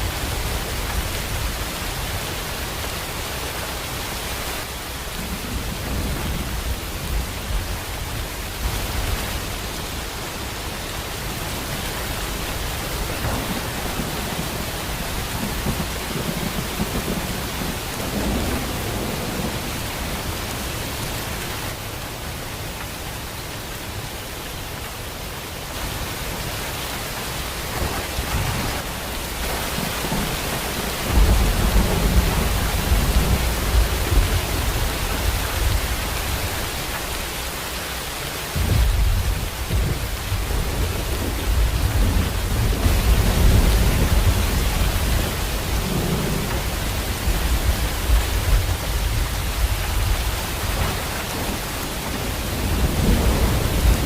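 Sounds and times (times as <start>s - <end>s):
low thunder rumbles: 0.0s - 21.4s, 27.3s - 54.0s
heavy rain: 0.0s - 54.0s.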